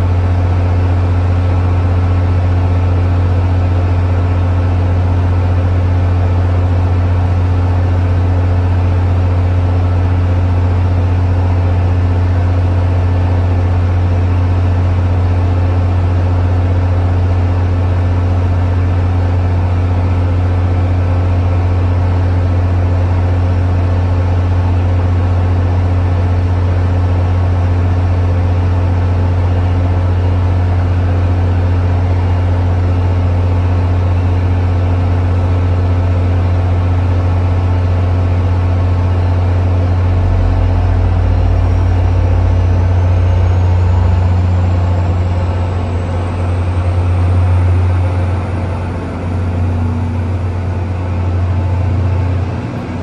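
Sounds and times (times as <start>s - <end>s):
diesel locomotive idling: 0.0s - 53.0s.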